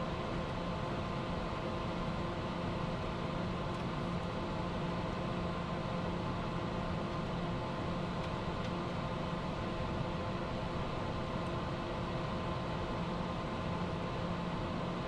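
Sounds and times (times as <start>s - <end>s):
jet cockpit airflow and engine noise: 0.0s - 15.0s.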